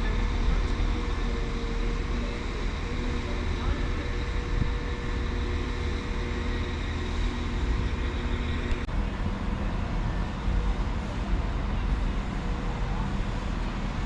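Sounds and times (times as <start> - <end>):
engine humming: 0.0 - 14.0
train rumbling: 0.0 - 14.0.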